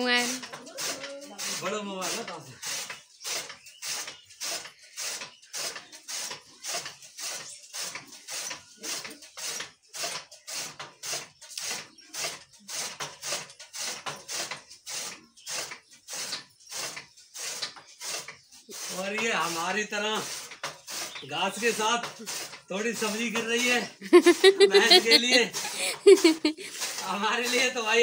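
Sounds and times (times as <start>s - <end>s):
chaff cutter chopping fodder: 0.2s - 19.2s, 24.1s - 27.6s.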